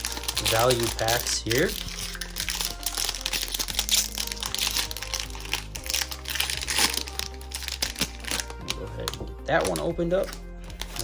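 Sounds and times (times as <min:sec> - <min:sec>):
background music: 0:00.0 - 0:11.0
plastic wrapper crinkling: 0:00.0 - 0:11.0.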